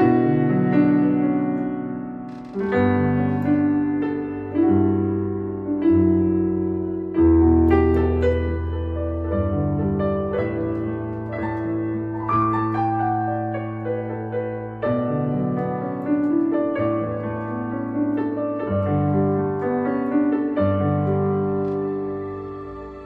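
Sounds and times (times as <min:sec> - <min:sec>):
synthesizer piano chords and melody: 0:00.0 - 0:23.0.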